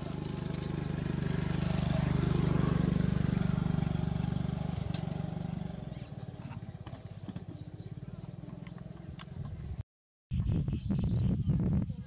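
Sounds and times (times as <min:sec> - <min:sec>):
small engine running: 0:00.0 - 0:09.7.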